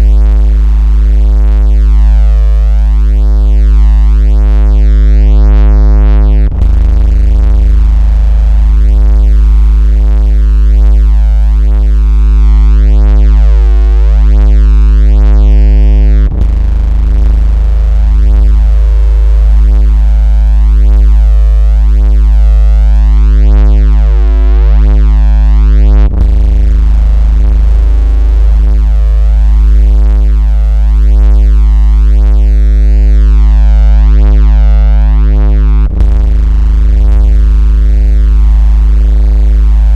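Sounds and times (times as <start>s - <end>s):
buzzy synthesized bass tone: 0.0s - 39.9s.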